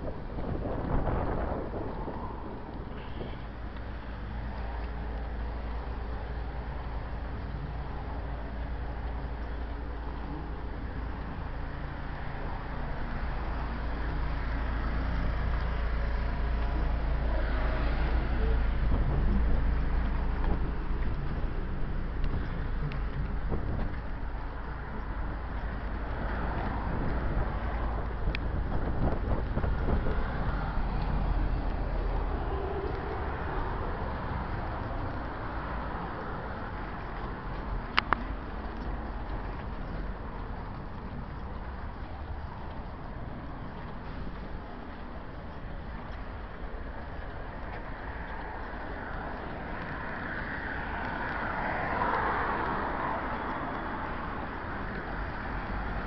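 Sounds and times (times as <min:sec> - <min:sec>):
city street traffic: 0:00.0 - 0:56.0
wind rumbling on microphone: 0:00.0 - 0:56.0.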